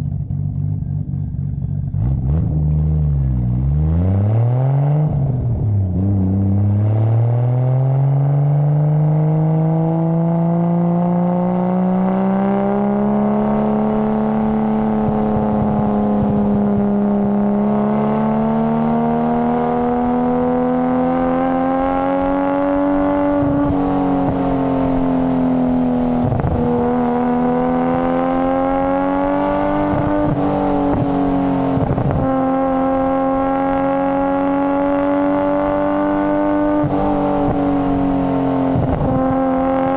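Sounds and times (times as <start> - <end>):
car engine and exhaust running: 0.0 - 39.9.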